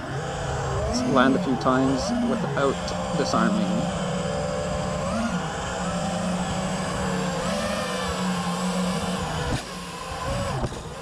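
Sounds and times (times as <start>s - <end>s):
drone motor whine: 0.0s - 11.0s.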